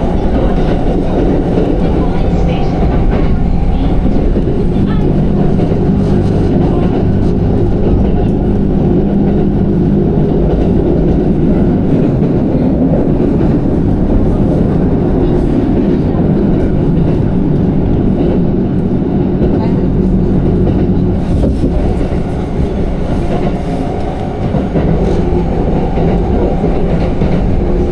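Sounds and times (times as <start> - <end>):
train wheels rumbling on track: 0.0 - 27.9.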